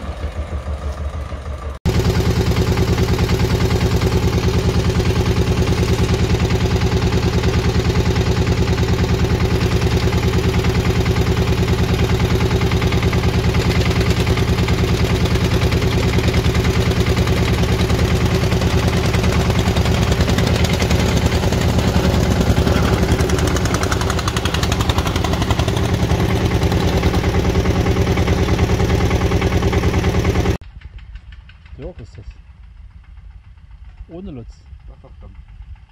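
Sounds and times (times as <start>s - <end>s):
tractor engine idling: 0.0s - 35.9s.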